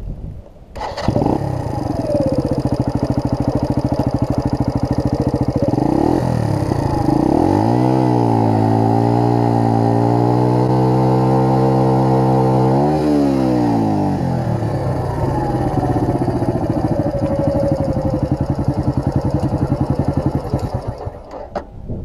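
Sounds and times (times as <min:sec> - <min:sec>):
motorcycle engine idling and revving: 0:00.8 - 0:21.8.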